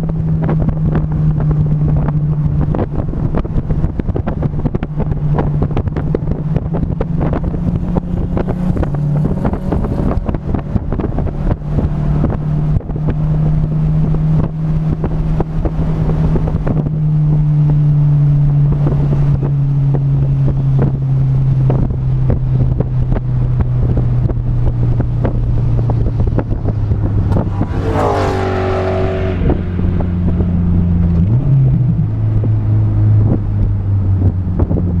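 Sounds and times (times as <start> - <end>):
car engine running: 0.0 - 35.0
wind buffeting microphone: 0.0 - 35.0.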